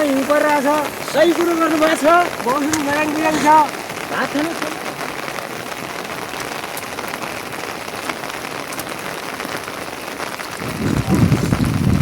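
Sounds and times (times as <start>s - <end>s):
rain pattering on a surface: 0.0s - 12.0s.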